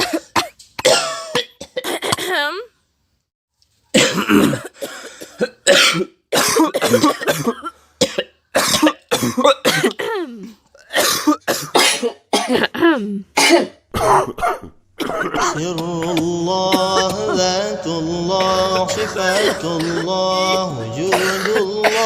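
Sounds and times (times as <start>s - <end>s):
person coughing: 0.0s - 2.6s, 4.0s - 17.5s, 18.4s - 22.0s.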